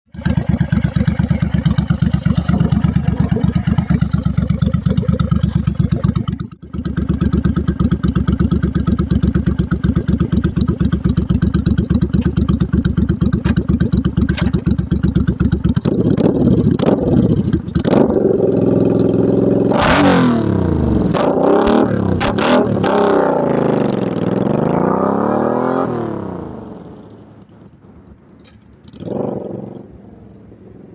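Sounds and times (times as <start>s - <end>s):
motorcycle engine idling and revving: 0.1s - 30.9s.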